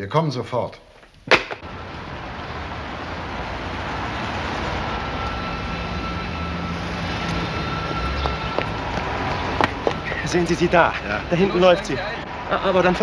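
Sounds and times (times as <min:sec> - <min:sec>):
traffic rumble: 0:01.0 - 0:13.0.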